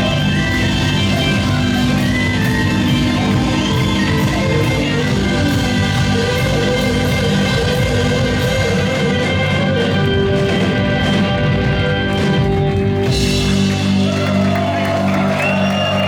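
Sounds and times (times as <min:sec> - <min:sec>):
blues-rock band playing live: 0:00.0 - 0:16.0.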